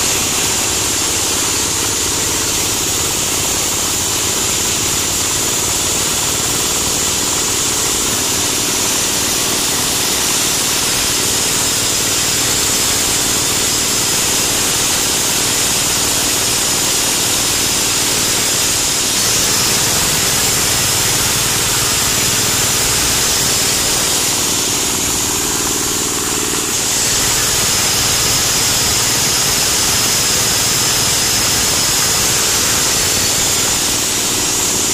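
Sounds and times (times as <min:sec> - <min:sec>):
grinding hiss: 0:00.0 - 0:34.9.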